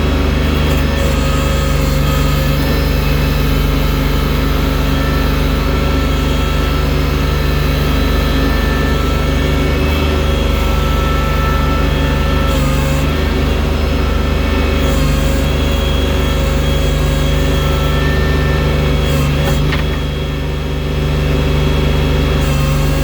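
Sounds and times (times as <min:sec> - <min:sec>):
snow-clearing machine engine running: 0:00.0 - 0:23.0.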